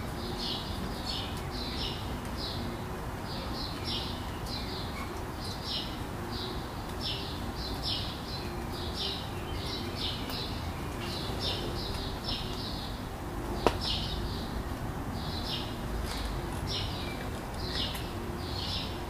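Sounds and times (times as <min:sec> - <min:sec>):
low city rumble: 0:00.0 - 0:19.0
small birds chirping: 0:00.0 - 0:19.0.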